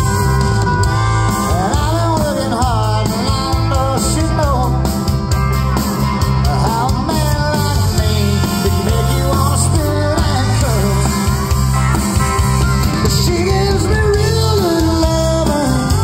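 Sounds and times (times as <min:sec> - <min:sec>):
country rock band playing: 0:00.0 - 0:16.0
man singing: 0:01.2 - 0:05.3, 0:06.1 - 0:11.7, 0:12.4 - 0:16.0.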